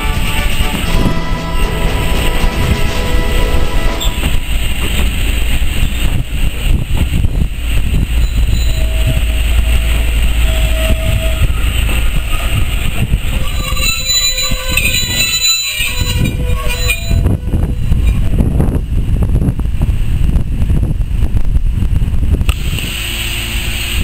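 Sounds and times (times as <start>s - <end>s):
wheels clattering on track: 0.0s - 22.7s
train coaches rumbling past: 0.0s - 24.0s.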